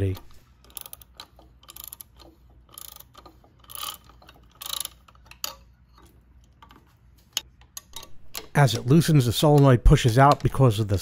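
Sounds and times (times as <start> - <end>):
socket ratchet clicking: 0.0 - 10.6.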